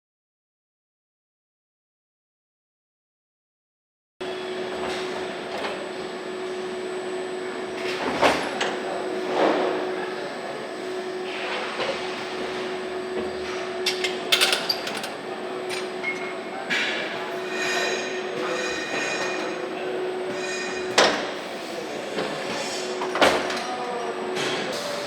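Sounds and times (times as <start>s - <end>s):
machinery hum with constant tone: 4.2s - 25.0s.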